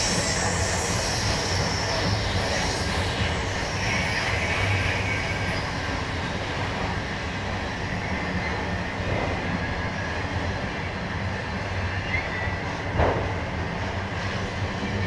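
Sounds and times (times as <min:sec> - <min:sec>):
freight train rumbling past: 0:00.0 - 0:15.0
train wheel squeal: 0:00.0 - 0:15.0.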